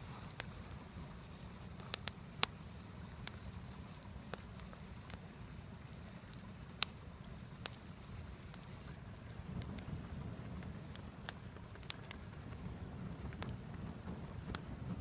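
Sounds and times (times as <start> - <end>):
bonfire popping: 0.0 - 15.0
low rumble of fire: 0.0 - 15.0.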